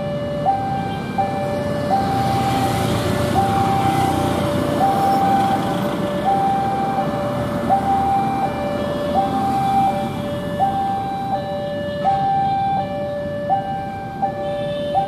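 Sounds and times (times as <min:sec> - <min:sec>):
level crossing two-tone alarm: 0:00.0 - 0:02.6, 0:03.3 - 0:15.0
road traffic rumble: 0:00.0 - 0:15.0.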